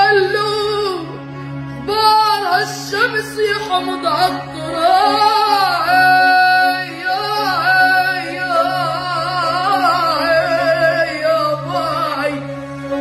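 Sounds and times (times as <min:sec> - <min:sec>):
violin: 0:00.0 - 0:13.0
boy singing with vibrato: 0:01.9 - 0:12.4.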